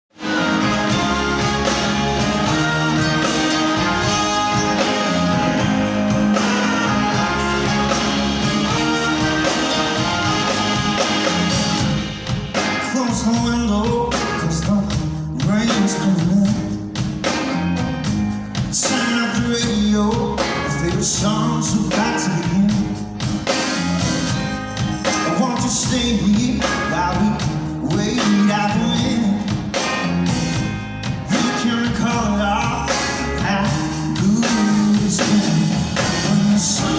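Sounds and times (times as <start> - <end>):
live rock band playing: 0.1 - 36.9.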